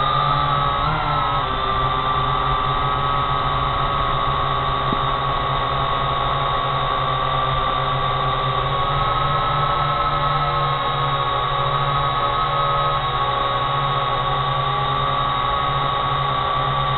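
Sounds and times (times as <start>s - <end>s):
drone motors whining: 0.0s - 16.9s.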